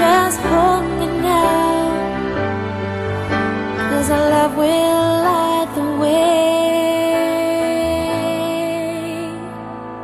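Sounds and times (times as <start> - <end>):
ballad melody with vibrato: 0.0 - 10.0.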